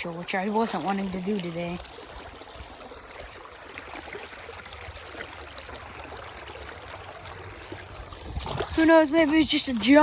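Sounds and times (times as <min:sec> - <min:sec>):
creek water flowing over rocks: 0:00.0 - 0:10.0.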